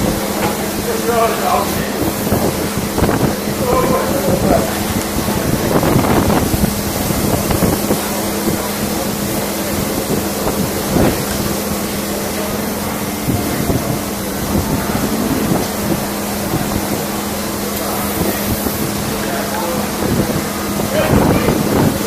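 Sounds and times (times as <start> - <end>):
low machine hum: 0.0 - 22.0
wind buffeting microphone: 0.0 - 22.0.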